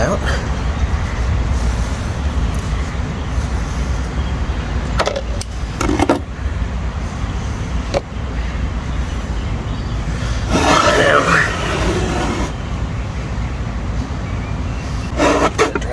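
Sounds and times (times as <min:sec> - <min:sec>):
steady low rumble: 0:00.0 - 0:15.9.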